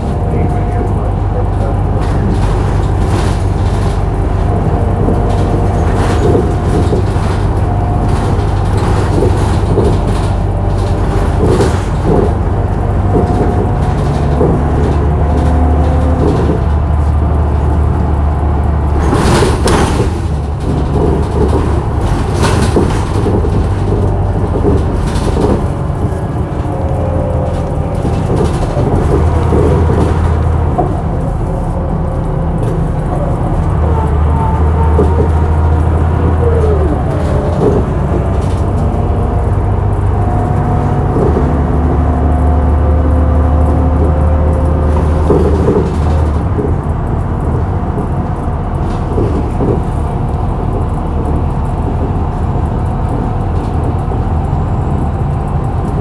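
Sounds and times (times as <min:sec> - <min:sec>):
bus engine running: 0:00.0 - 0:56.0
steady rattling: 0:00.0 - 0:56.0.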